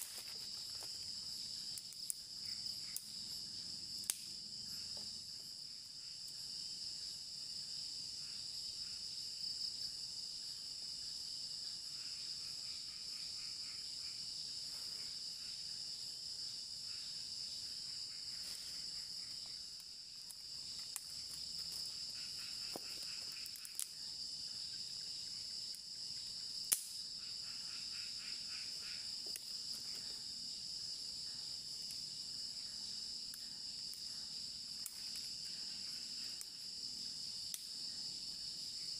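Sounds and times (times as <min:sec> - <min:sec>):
crickets and night insects: 0:00.0 - 0:38.9.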